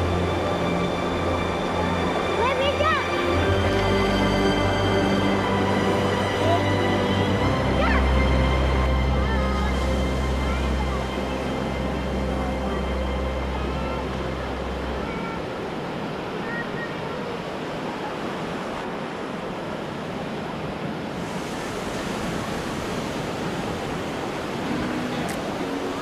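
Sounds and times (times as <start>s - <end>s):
waves breaking: 0.0s - 26.0s.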